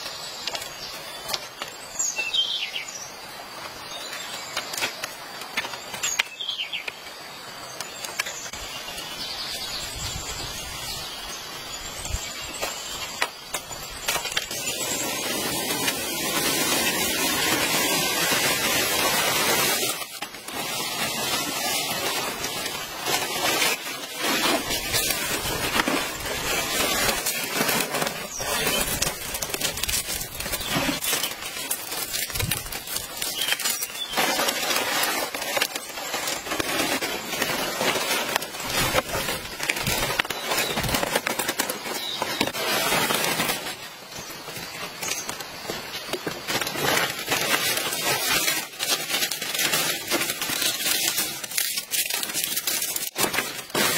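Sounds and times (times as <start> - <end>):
palm fronds rustling and crackling: 0.0 - 53.9.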